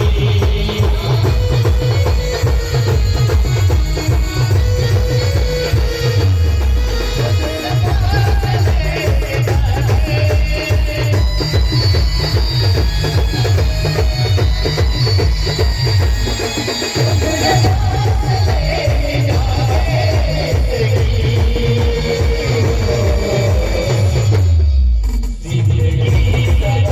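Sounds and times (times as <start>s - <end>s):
fast bass drum beat: 0.0s - 16.2s, 17.4s - 26.9s
band music: 0.0s - 26.9s.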